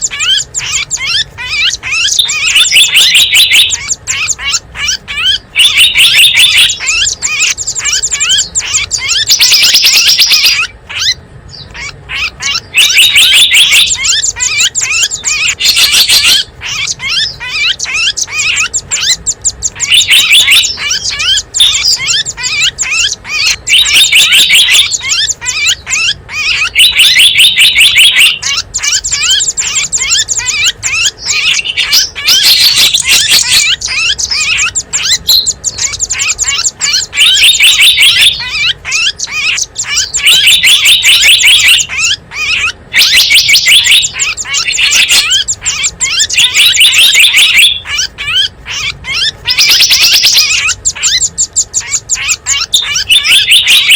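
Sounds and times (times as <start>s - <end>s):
small birds chirping and trilling: 0.0s - 53.9s.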